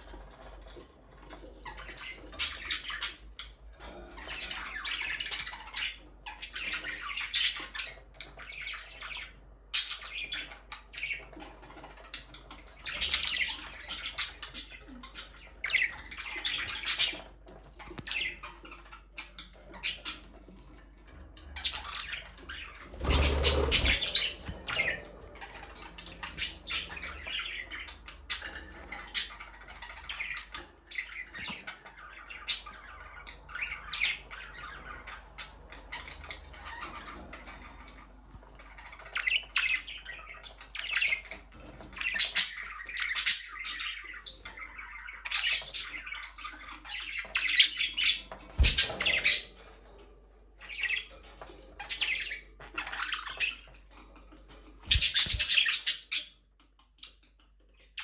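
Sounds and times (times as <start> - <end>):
budgerigars chirping and squawking: 0.0 - 58.0.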